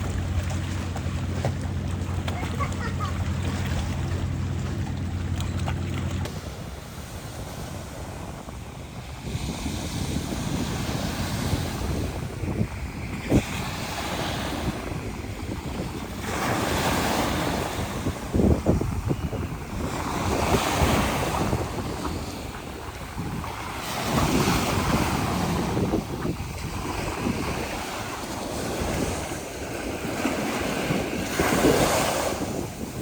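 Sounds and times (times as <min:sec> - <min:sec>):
sea waves washing in: 0:00.0 - 0:33.0
wind buffeting microphone: 0:00.0 - 0:33.0.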